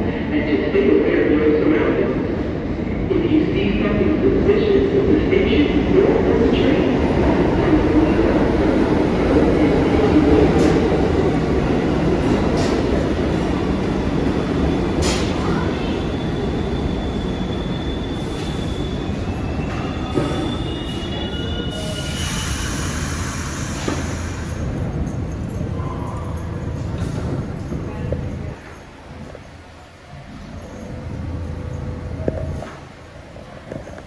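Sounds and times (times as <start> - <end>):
subway train rumble: 0.0 - 34.0.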